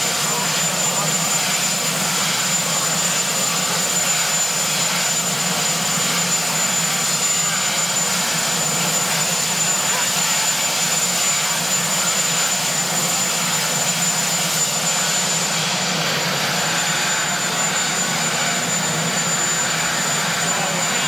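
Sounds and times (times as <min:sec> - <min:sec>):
helicopter turbine and rotor rush: 0:00.0 - 0:21.0.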